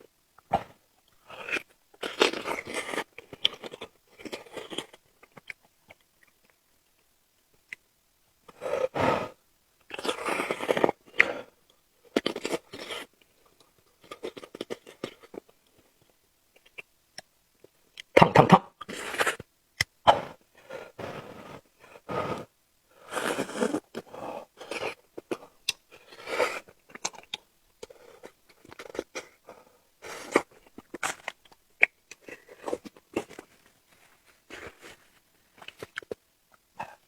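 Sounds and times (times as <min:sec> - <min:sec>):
person chewing and crunching food: 0:00.4 - 0:06.6, 0:09.9 - 0:16.9, 0:20.1 - 0:37.0.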